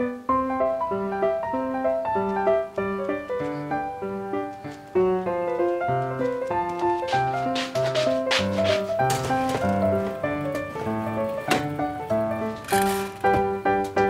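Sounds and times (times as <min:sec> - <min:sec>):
bouncy background music: 0:00.3 - 0:14.0.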